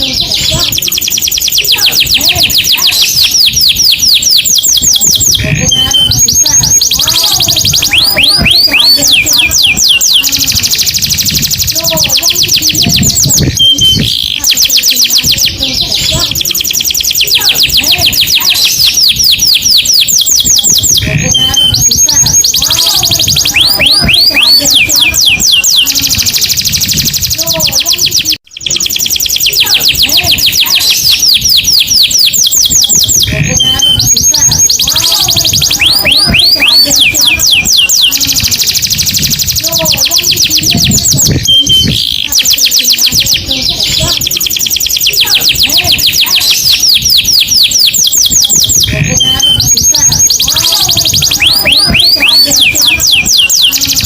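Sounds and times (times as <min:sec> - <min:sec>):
canary singing high trills: 0:00.0 - 0:54.0.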